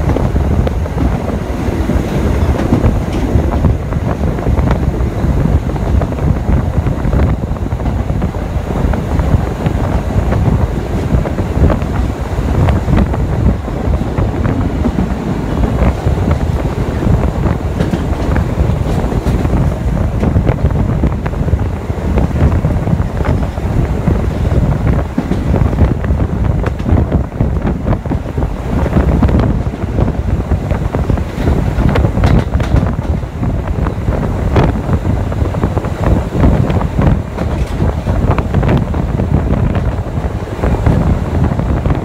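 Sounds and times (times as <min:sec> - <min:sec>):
train rumbling on rails: 0:00.0 - 0:42.0
wheels clicking and clattering: 0:00.0 - 0:42.0
wind rushing on microphone: 0:00.0 - 0:42.0.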